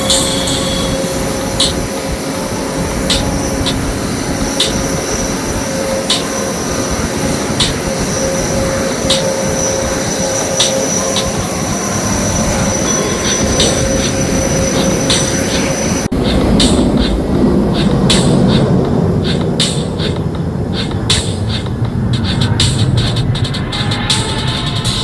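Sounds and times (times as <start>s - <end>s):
continuous rushing noise: 0.0s - 25.0s
jet engines whining: 0.0s - 25.0s.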